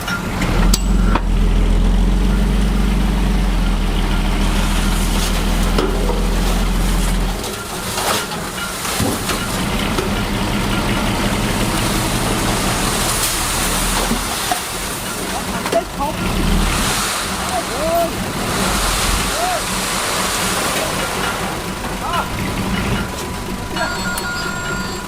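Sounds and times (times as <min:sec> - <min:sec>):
heavy machinery diesel engine: 0:00.0 - 0:25.0.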